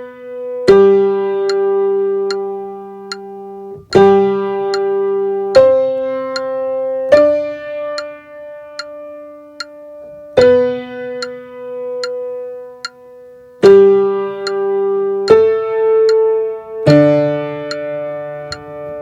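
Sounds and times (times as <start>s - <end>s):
electric piano playing hymn notes: 0.0s - 19.0s.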